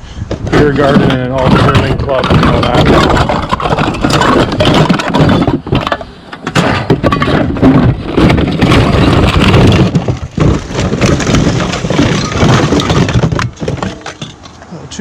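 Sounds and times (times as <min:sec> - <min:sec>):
cans and bottles clattering: 0:00.3 - 0:14.7.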